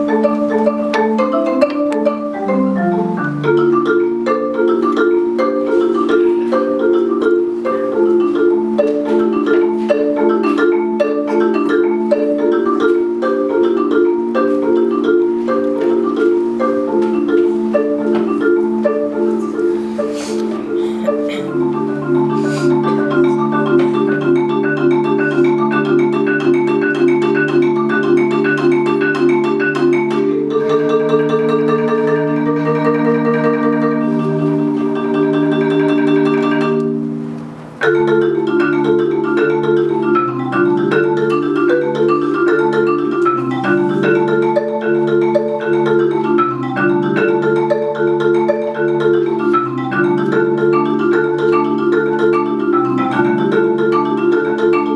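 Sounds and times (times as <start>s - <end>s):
marimba played with mallets: 0.0s - 54.9s.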